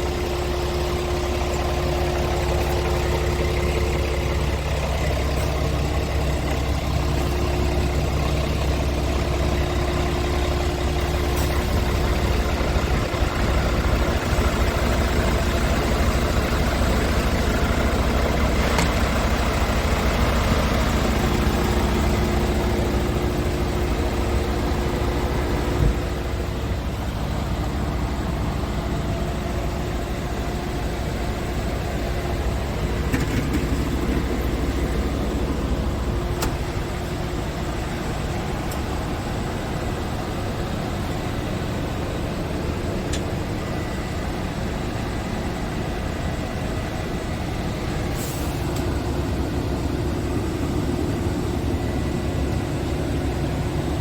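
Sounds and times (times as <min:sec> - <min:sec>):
truck engine droning: 0:00.0 - 0:54.0.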